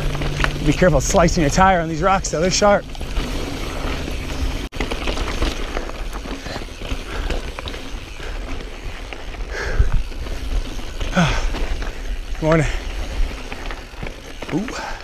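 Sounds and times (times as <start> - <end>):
bike rattling: 0.0 - 15.0
tyres crunching over rock: 0.0 - 15.0.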